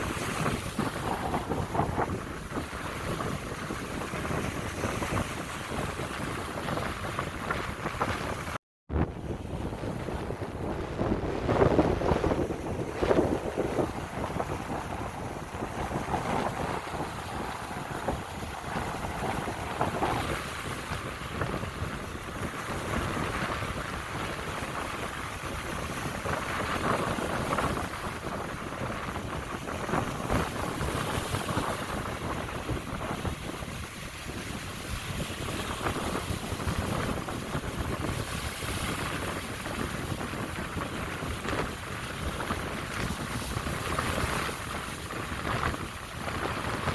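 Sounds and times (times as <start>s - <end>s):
waves washing onto shore: 0.0s - 46.9s
wind buffeting microphone: 0.0s - 46.9s.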